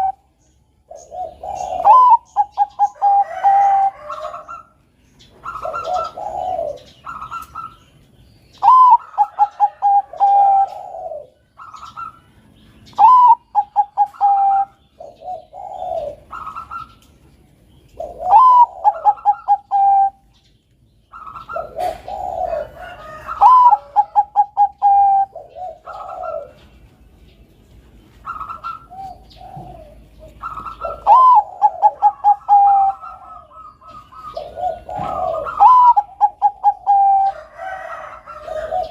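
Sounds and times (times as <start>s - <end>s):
dove cooing: 0.0s - 20.4s, 21.1s - 27.3s, 28.1s - 38.9s.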